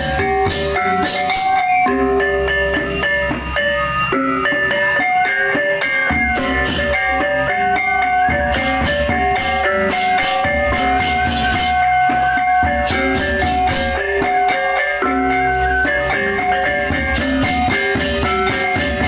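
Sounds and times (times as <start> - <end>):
cymbals clashing: 0.0 - 19.0
drums: 0.0 - 19.0
gong-chime tones: 0.0 - 19.0.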